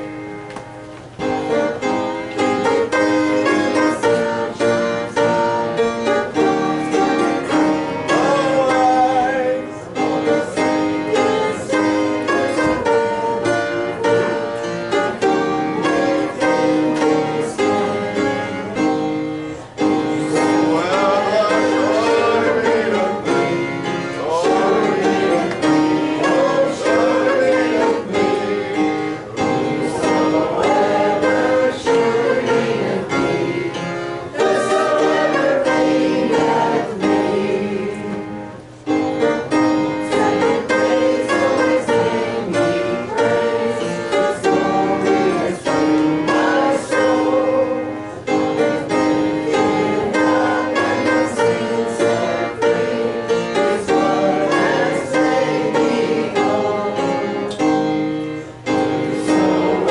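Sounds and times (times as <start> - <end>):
congregation singing a hymn: 0.0 - 59.9
instrumental accompaniment: 0.0 - 59.9.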